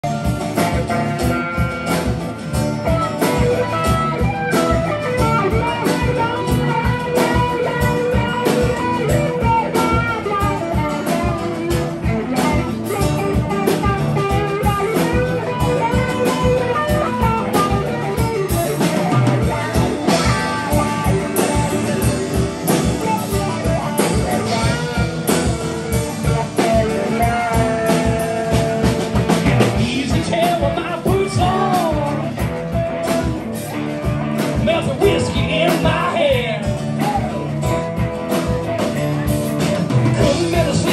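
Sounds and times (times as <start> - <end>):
acoustic guitar: 0.0 - 40.9
bass guitar: 0.0 - 40.9
drum kit steady beat: 0.0 - 40.9
electric guitar: 0.0 - 40.9.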